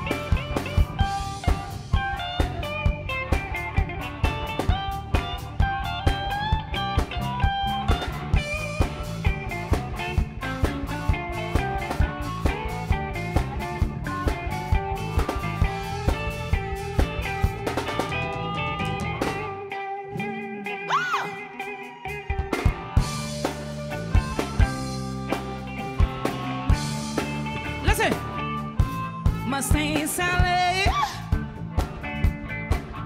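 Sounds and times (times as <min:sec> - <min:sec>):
drum kit steady beat: 0:00.0 - 0:19.7, 0:22.5 - 0:33.0
electric bass: 0:00.0 - 0:33.0
electric guitar: 0:00.0 - 0:33.0.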